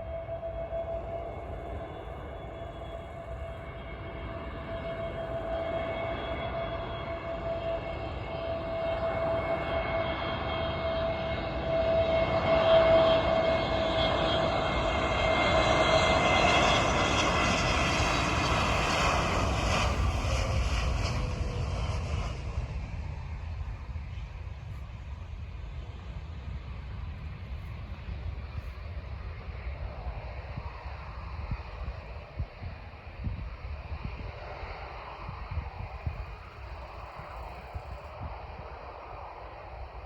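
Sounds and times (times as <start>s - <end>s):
plane engines passing: 0.0s - 40.0s.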